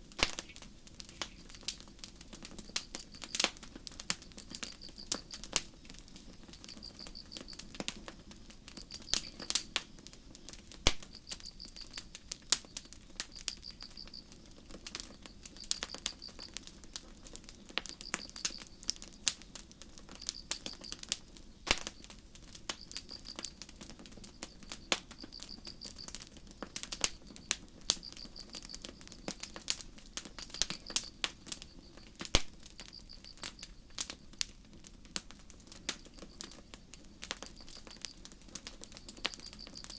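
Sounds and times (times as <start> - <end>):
campfire crackling and popping: 0.0 - 39.9
crickets chirping: 2.5 - 34.4, 35.5 - 39.9.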